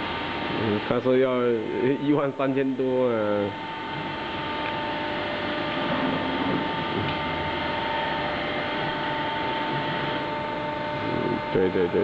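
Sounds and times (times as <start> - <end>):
constant machine whine: 0.0 - 12.0.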